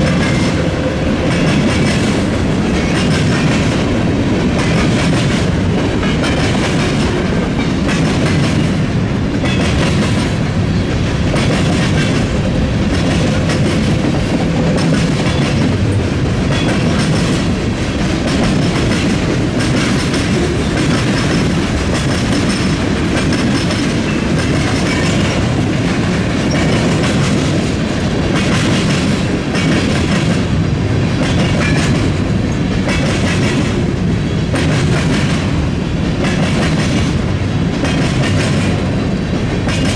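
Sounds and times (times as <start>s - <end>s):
train wheels clacking: 0.0s - 39.9s.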